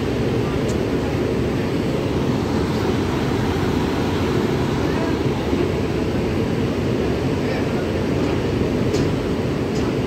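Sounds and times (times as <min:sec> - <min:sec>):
locomotive cooling blowers droning: 0:00.0 - 0:10.0.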